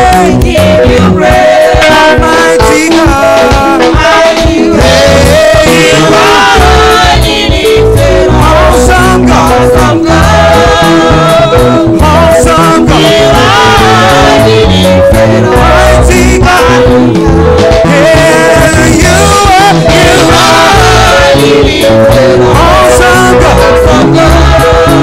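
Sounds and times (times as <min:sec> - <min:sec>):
band with bass and drums: 0:00.0 - 0:25.0
voices singing gospel music: 0:00.0 - 0:25.0.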